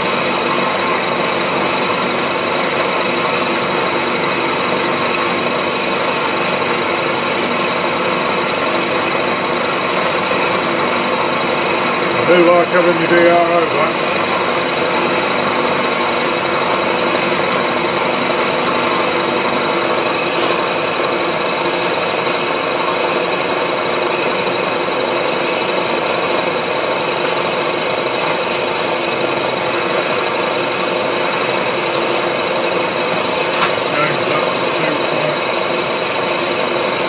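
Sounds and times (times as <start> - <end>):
milling machine cutting metal: 0.0 - 37.0.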